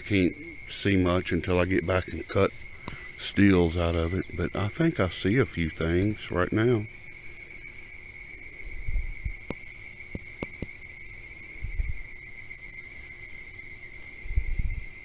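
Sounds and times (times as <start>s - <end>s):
insects singing drone: 0.0s - 15.0s.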